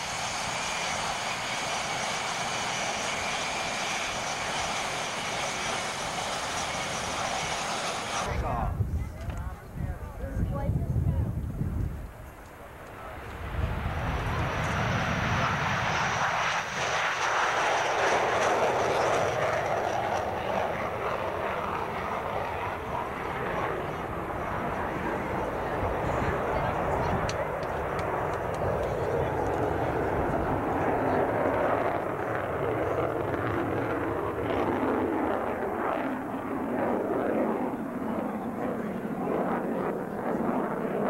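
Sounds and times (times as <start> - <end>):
jet engines roaring: 0.0 - 8.8, 11.9 - 41.0.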